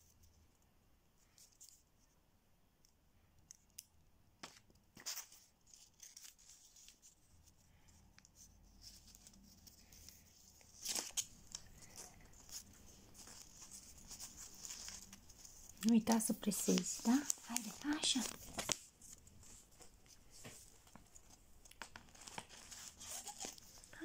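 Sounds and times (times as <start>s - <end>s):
paper rustling: 4.4s - 24.0s.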